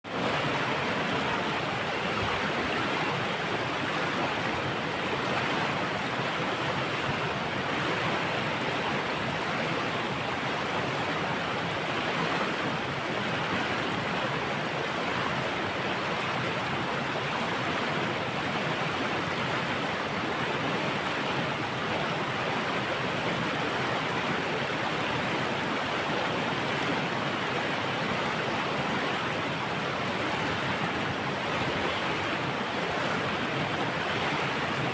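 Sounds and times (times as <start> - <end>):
water rushing over dam: 0.1 - 34.9.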